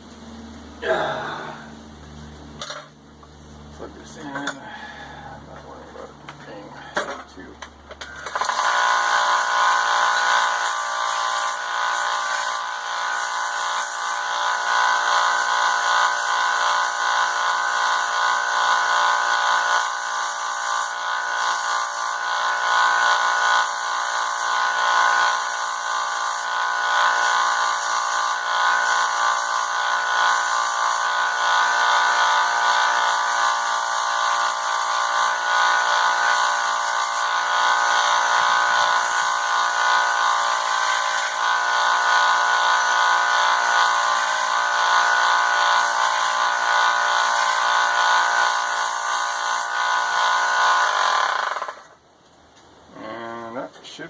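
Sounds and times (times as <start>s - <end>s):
belt sander grinding steel: 2.5s - 52.0s.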